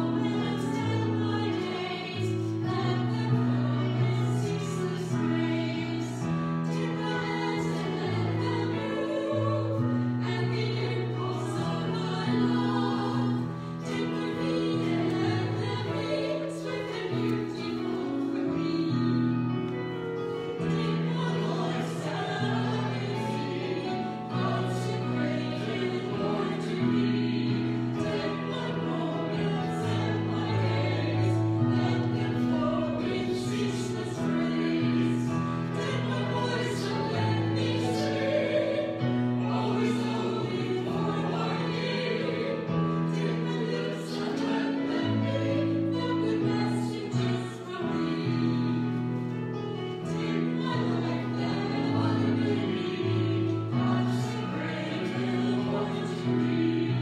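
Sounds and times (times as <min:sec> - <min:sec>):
group singing a hymn: 0:00.0 - 0:57.0
held chords: 0:00.0 - 0:57.0.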